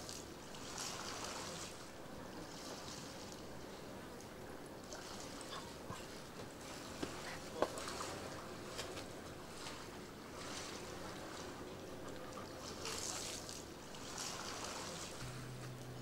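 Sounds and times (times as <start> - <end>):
small waves washing on shore: 0.0 - 16.0.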